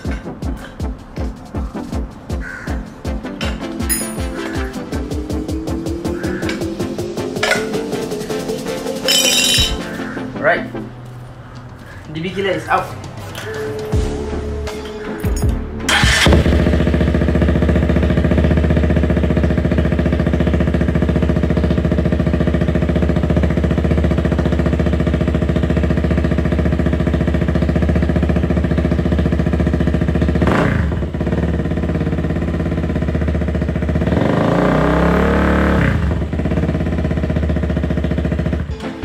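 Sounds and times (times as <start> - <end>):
motorcycle engine idling and revving: 0.0 - 38.8.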